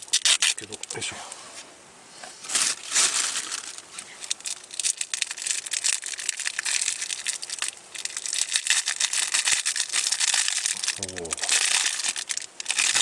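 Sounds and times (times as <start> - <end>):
wrapper crinkling: 0.0 - 1.0, 2.5 - 13.0.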